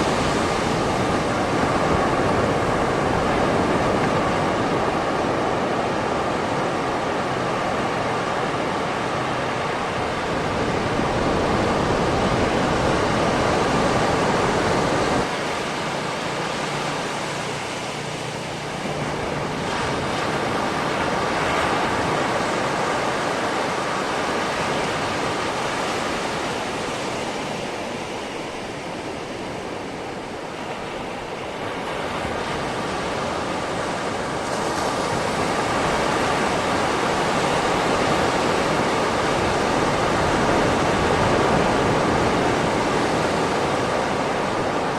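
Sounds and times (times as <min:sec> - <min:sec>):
sea waves washing on beach: 0:00.0 - 0:44.9.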